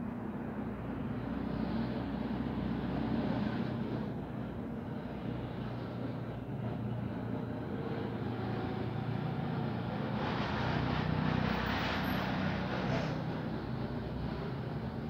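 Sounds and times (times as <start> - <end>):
diesel lorry engines rumbling: 0.0 - 15.0.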